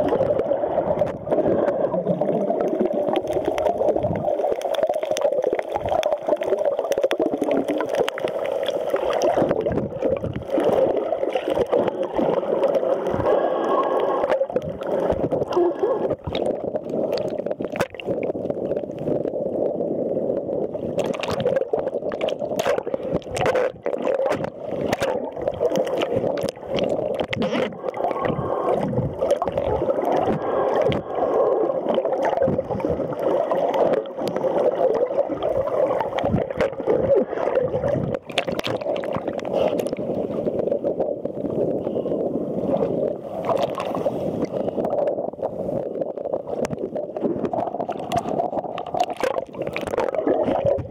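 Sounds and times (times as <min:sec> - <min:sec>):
muffled underwater sloshing: 0:00.0 - 0:50.9.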